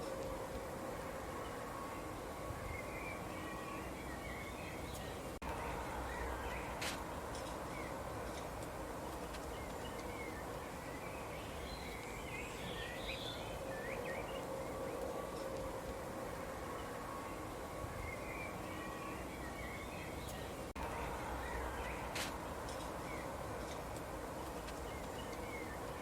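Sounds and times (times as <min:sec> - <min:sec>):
background hiss: 0:00.0 - 0:26.0
faint hum: 0:00.0 - 0:26.0
small birds chirping: 0:00.0 - 0:26.0.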